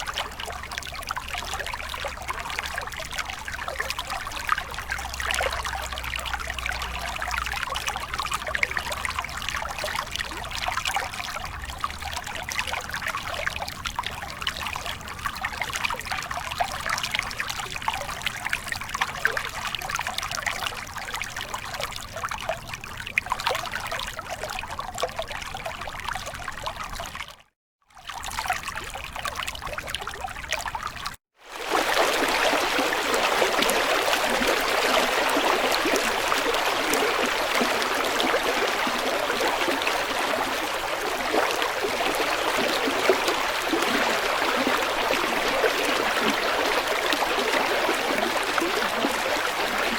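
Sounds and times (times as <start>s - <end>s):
stream trickling and splashing: 0.0s - 49.9s.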